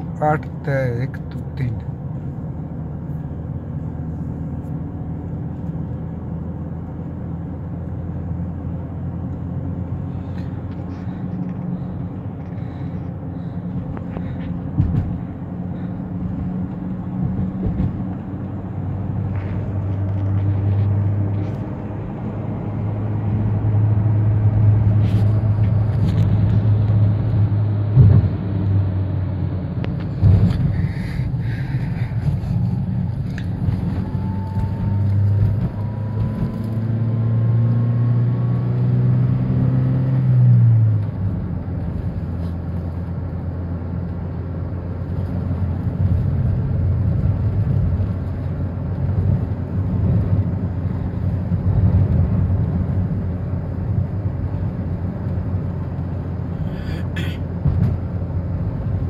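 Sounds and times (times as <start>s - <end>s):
road noise: 0.0s - 59.0s
vehicle engine accelerating: 0.8s - 59.0s.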